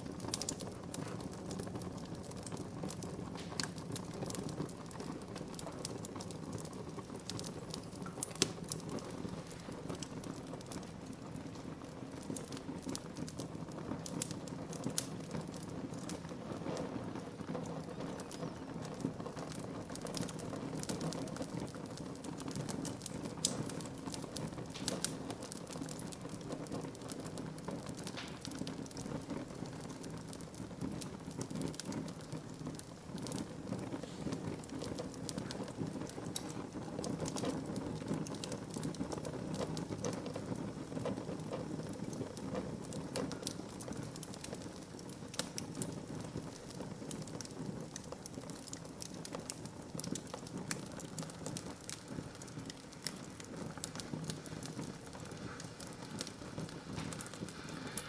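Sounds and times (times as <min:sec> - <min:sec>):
burning wood crackling: 0:00.0 - 0:58.0
low rush of flame: 0:00.1 - 0:58.0.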